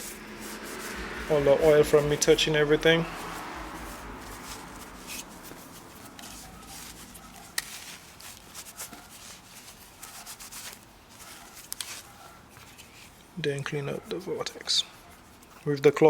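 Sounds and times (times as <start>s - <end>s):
cloth rubbing over pistol: 0.0s - 13.2s.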